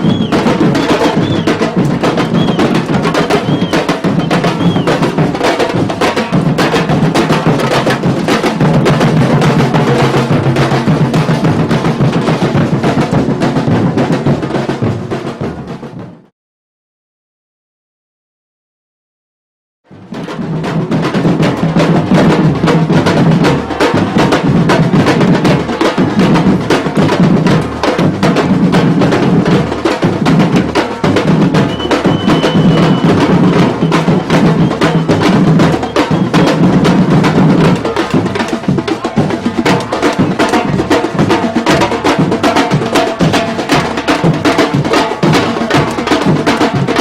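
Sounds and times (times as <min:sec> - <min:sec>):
percussion ensemble drumming: 0:00.0 - 0:16.3, 0:19.9 - 0:47.0.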